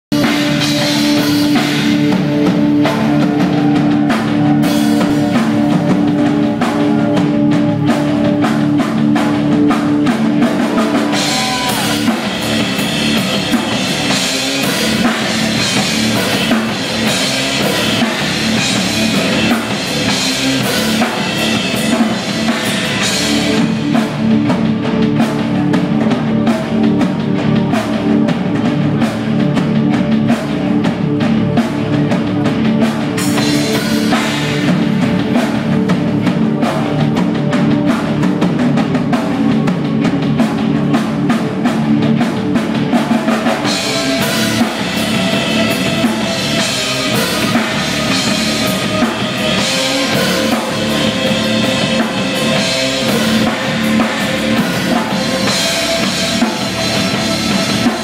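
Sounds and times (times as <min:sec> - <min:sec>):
rock band playing loud: 0:00.0 - 0:58.0.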